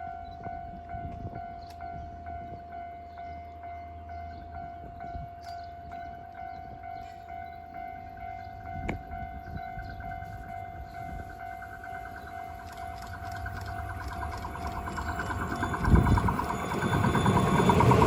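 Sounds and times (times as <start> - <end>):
level-crossing warning bell: 0.0 - 18.0
low rumble of passing train: 0.0 - 18.0.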